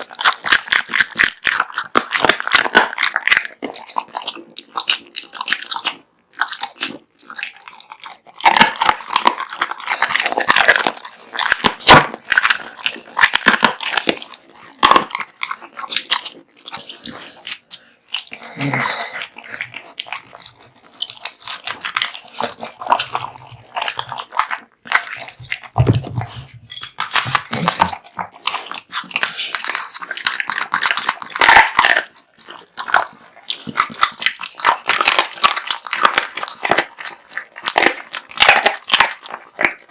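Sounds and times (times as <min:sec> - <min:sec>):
dog chewing meat and bone: 0:00.0 - 0:39.9.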